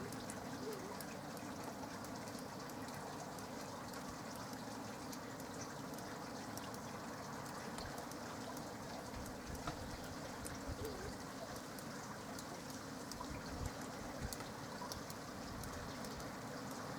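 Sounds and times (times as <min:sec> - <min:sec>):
light rain dripping: 0:00.0 - 0:16.9.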